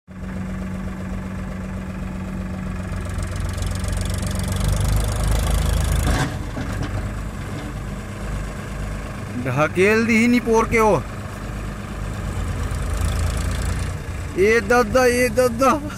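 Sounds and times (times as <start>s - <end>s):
tractor diesel engine under load: 0.1s - 15.9s.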